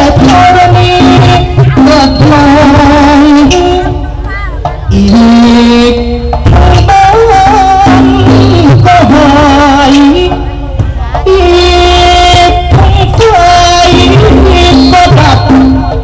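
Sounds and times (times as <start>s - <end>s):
folk ensemble with light percussion: 0.0s - 16.0s
man singing through microphone: 0.0s - 16.0s.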